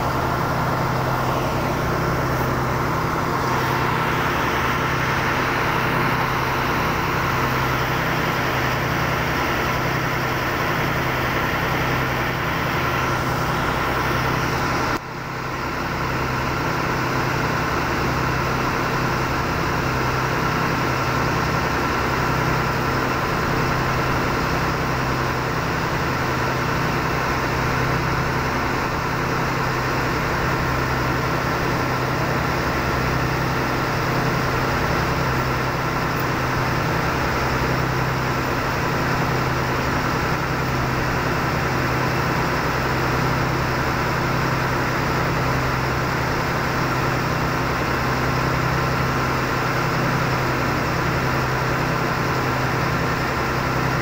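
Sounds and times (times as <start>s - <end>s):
boat engine drone: 0.0s - 54.0s.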